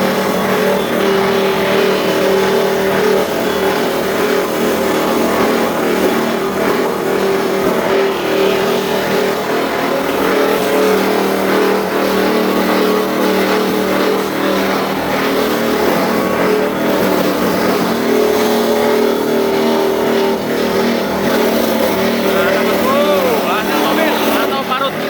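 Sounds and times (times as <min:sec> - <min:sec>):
motor hum: 0:00.0 - 0:25.0
wood grinding into sawdust: 0:00.0 - 0:25.0.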